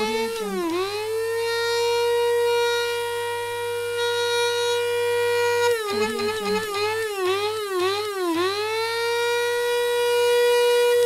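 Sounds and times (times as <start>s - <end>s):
coffee grinder motor whining: 0.0s - 11.0s.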